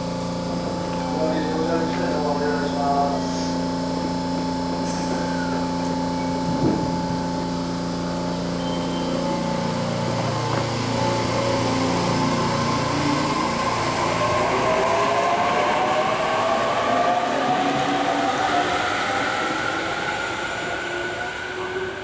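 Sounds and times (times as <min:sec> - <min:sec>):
electric train humming: 0:00.0 - 0:22.0
train motor whine rising: 0:00.0 - 0:22.0.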